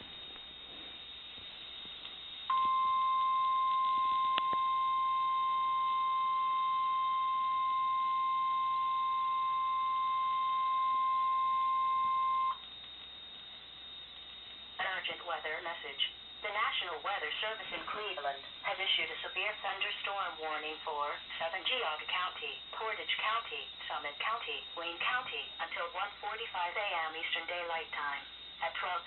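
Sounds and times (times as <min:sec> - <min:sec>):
steady alarm tone: 0:00.0 - 0:29.0.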